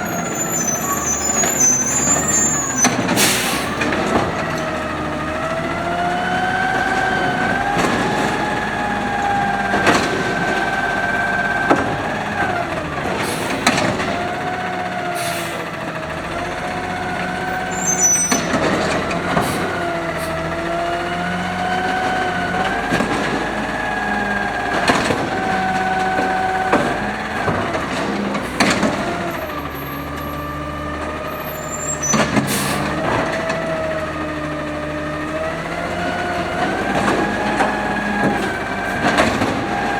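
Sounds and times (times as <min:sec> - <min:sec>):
clanks and bangs from truck arm: 0:00.0 - 0:15.7, 0:17.3 - 0:39.9
garbage truck engine revving: 0:00.0 - 0:39.9.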